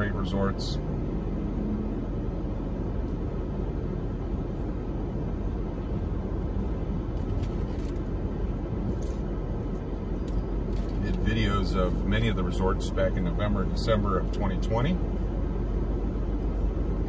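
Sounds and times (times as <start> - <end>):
cross traffic passing: 0.0 - 17.0
low traffic rumble: 0.0 - 17.0.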